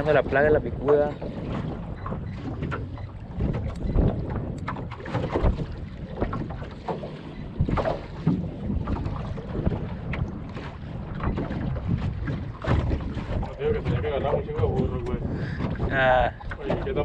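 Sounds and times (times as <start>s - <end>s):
water lapping against boat hull: 0.0s - 17.0s
wind buffeting microphone: 0.0s - 17.0s.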